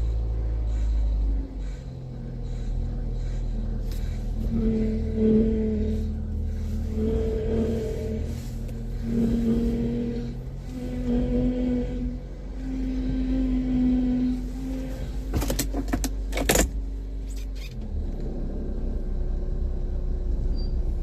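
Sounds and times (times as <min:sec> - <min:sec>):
car engine idling: 0:00.0 - 0:21.0
power steering whine: 0:00.0 - 0:21.0
steering clicks and squeaks: 0:00.0 - 0:21.0.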